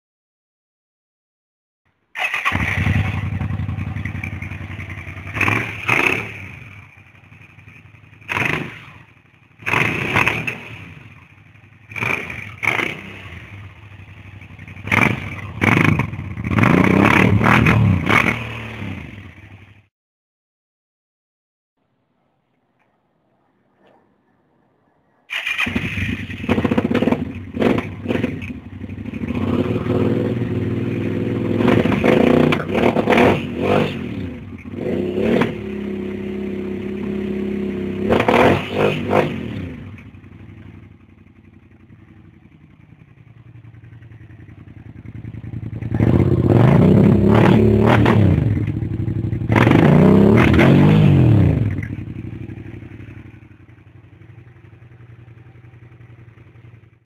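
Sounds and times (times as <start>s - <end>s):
motorcycle engine revving: 2.2s - 19.9s, 25.3s - 57.0s.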